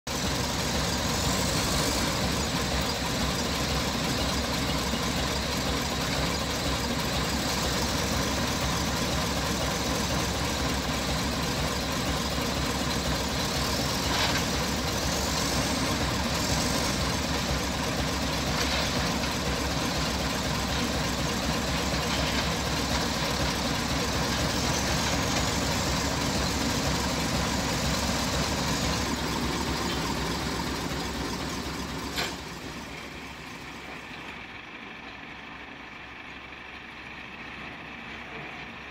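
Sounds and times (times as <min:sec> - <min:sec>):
diesel engine idling: 0:00.1 - 0:38.9.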